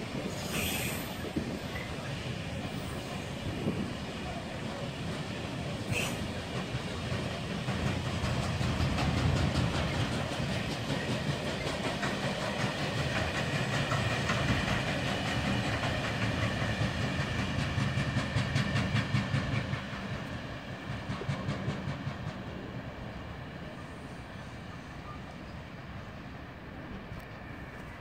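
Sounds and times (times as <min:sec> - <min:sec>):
train wheels clicking over rails: 0:00.0 - 0:24.6.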